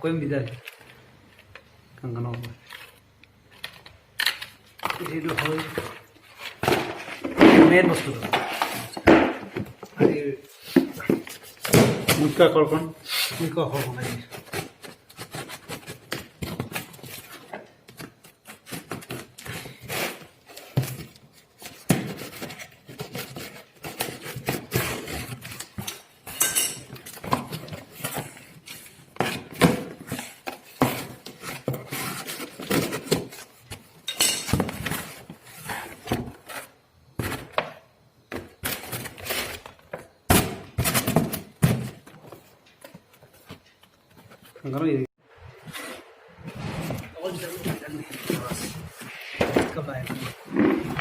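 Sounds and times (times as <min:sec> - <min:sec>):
cardboard box and packing handled: 0:04.7 - 0:44.6, 0:45.6 - 0:51.0.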